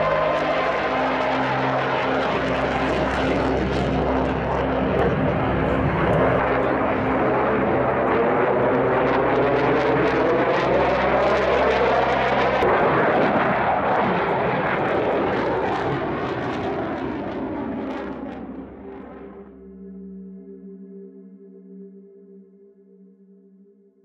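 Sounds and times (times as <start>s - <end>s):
jet engine passing overhead: 0.0s - 20.3s.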